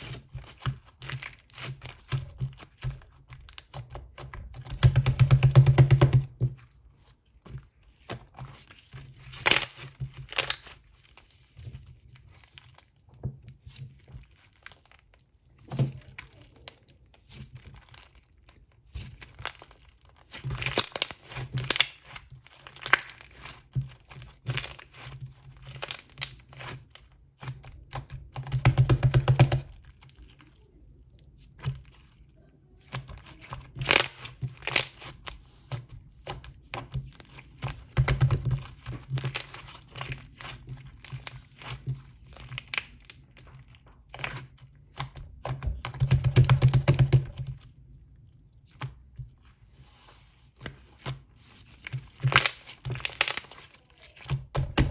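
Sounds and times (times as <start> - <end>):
crinkling and tearing: 6.7 - 28.3, 29.5 - 54.9.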